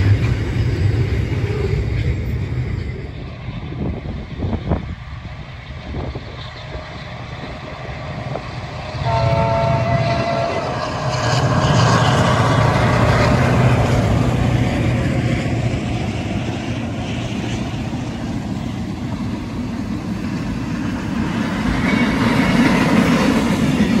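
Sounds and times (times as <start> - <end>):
locomotive engine rumble: 0.0 - 24.0
train wheels on rails: 0.0 - 24.0.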